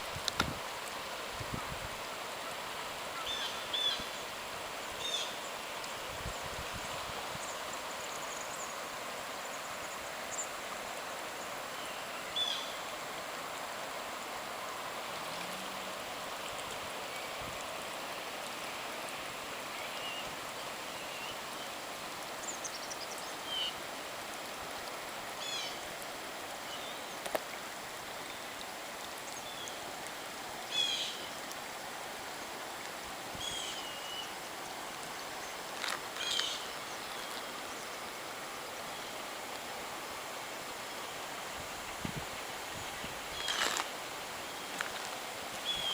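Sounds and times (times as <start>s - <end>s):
floodwater rushing: 0.0s - 45.9s.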